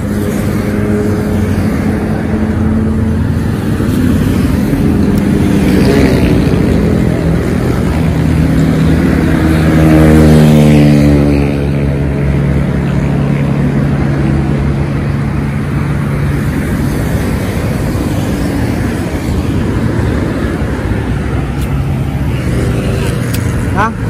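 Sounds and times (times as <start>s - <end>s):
road noise rush: 0.0s - 24.0s
vehicle engine hum: 0.0s - 24.0s.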